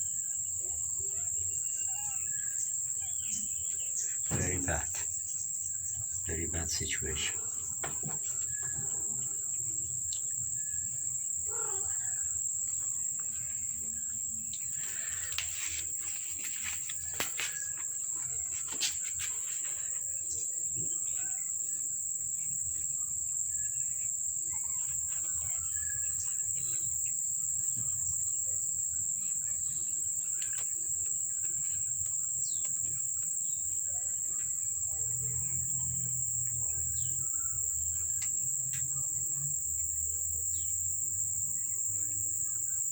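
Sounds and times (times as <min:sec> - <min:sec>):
crickets chirring: 0:00.0 - 0:42.9.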